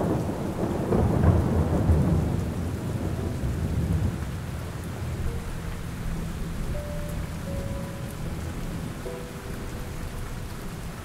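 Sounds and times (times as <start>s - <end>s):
low roll of thunder: 0.0s - 11.0s
steady rain: 0.0s - 11.0s.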